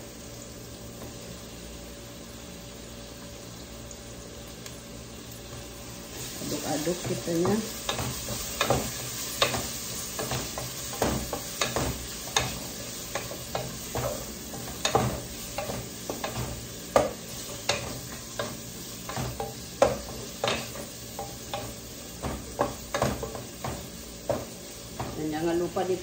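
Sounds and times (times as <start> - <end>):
shrimp sizzling in oil: 0.0 - 26.0.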